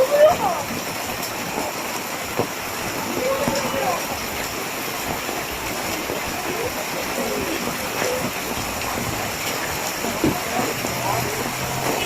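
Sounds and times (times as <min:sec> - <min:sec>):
faint voices: 0:00.0 - 0:12.0
heavy rain pouring: 0:00.0 - 0:12.0.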